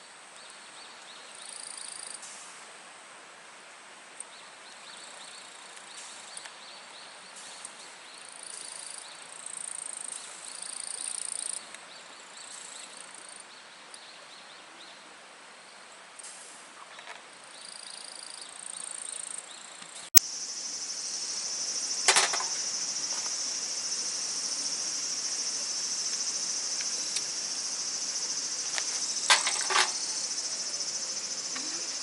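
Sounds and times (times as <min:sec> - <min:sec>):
insects chirping and trilling: 0:00.4 - 0:02.5, 0:04.6 - 0:14.1, 0:16.8 - 0:32.0.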